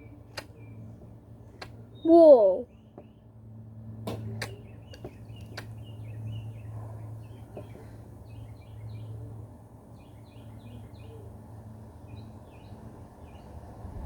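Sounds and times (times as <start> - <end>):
birds chirping: 0.0 - 3.5, 4.1 - 14.0
steady low hum: 0.0 - 14.0.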